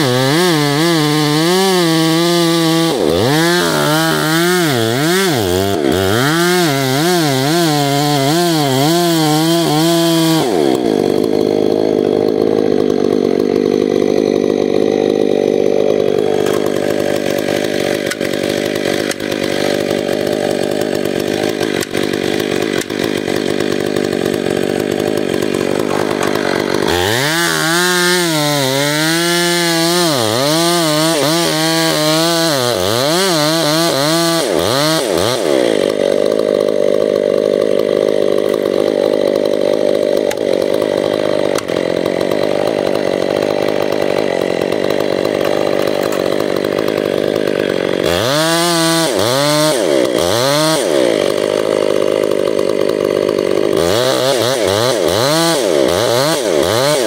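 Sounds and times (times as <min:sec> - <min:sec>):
chainsaw cutting tree trunk: 0:00.0 - 0:57.0.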